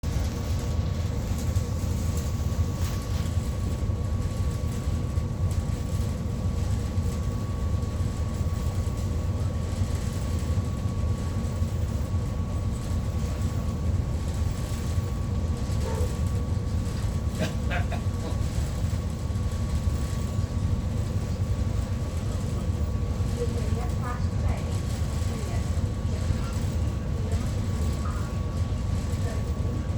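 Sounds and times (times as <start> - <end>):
ferry engines rumbling: 0.0 - 29.9.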